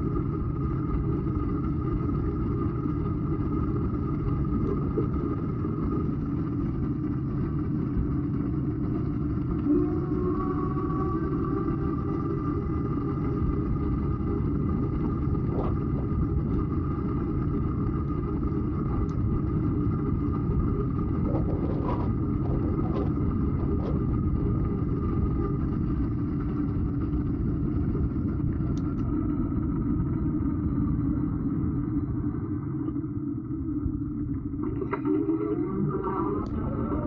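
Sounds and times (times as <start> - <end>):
wind on microphone: 0.0 - 32.2.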